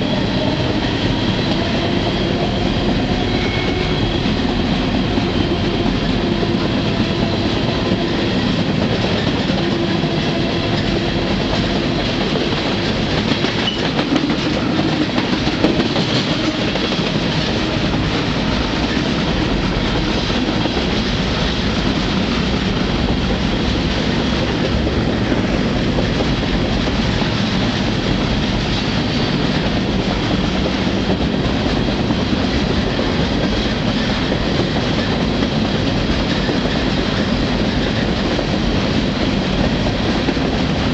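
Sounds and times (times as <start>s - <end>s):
steel wheels running on rails: 0.0s - 40.9s.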